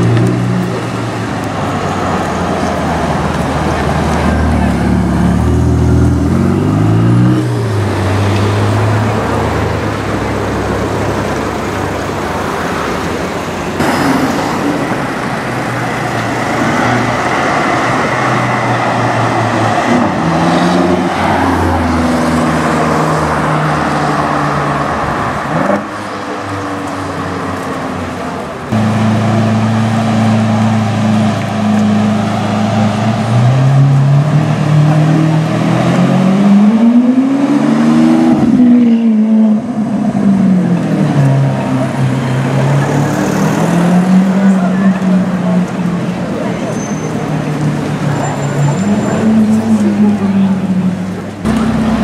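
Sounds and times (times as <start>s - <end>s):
street traffic: 0.0s - 52.0s.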